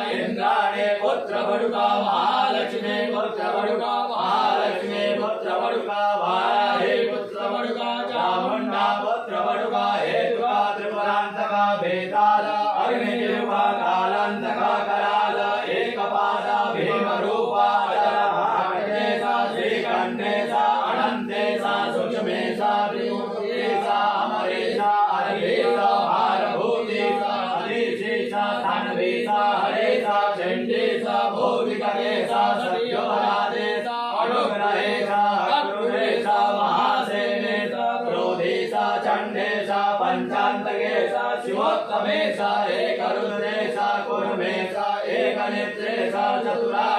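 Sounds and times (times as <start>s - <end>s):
voices chanting in unison: 0.0s - 46.9s.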